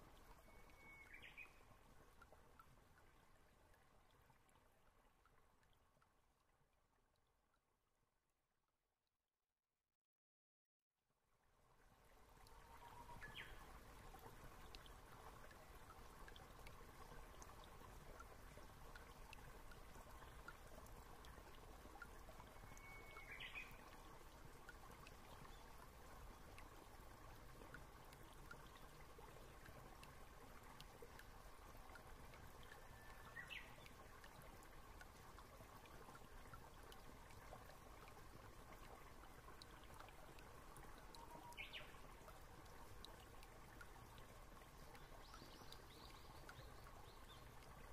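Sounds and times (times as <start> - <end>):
faint steady hiss: 0.0 - 6.5, 11.3 - 47.9.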